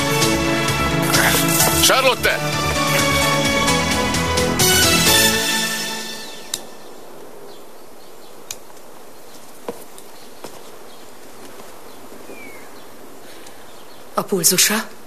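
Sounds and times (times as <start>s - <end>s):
steady room hiss: 0.0s - 15.0s.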